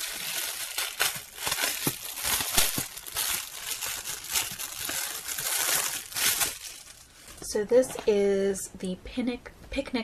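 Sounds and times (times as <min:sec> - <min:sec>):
plastic wrap crinkling: 0:00.0 - 0:08.1.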